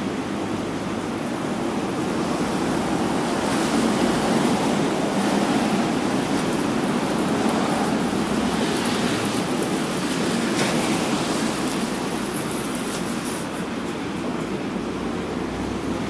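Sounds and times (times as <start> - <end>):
city traffic: 0.0 - 16.0
tyres hissing on wet asphalt: 0.3 - 16.0.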